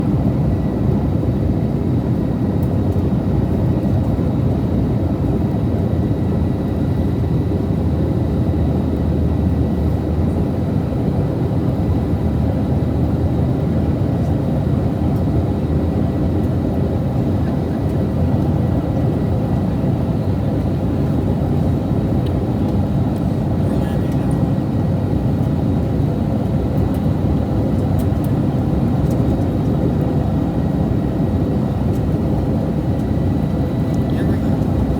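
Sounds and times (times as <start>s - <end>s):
jet cabin engine rumble: 0.0s - 34.9s.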